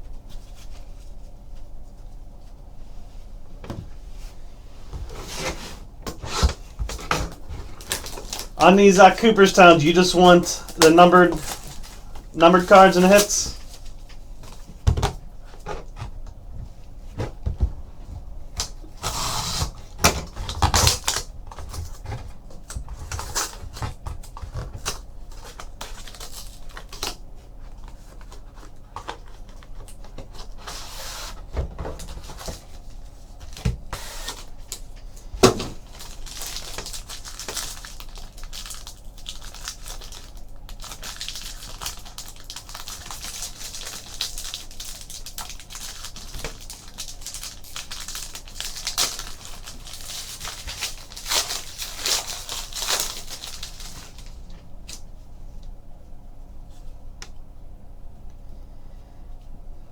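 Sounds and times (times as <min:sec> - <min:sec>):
cardboard and wrappers rustling: 0:03.9 - 0:18.9, 0:19.5 - 0:55.0.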